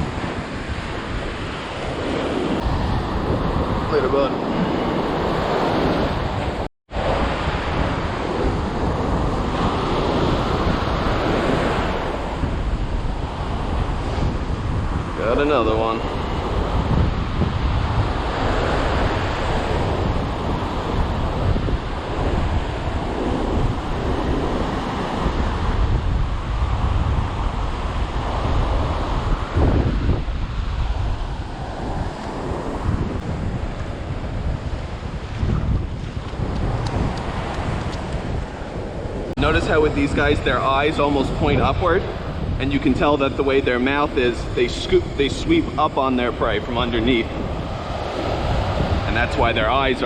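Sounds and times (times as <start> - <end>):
ocean surf washing: 0.0 - 50.0
wind buffeting microphone: 0.0 - 50.0.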